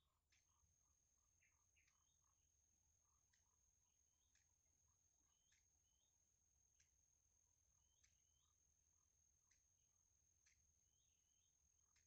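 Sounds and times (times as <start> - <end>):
bird chirps: 0.0 - 2.4, 3.0 - 7.0, 7.6 - 12.0.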